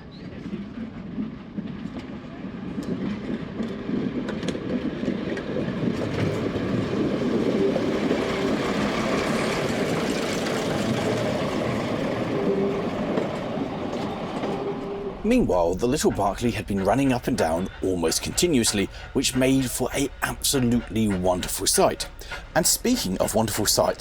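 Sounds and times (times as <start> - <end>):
train running on track: 0.0 - 24.0.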